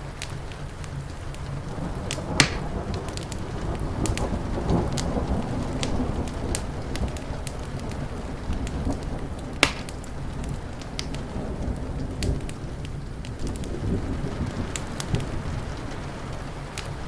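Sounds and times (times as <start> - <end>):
distant thunder rumbling: 0.0 - 17.0
rain hissing: 0.0 - 17.0
wood fire crackling and popping: 0.0 - 17.0.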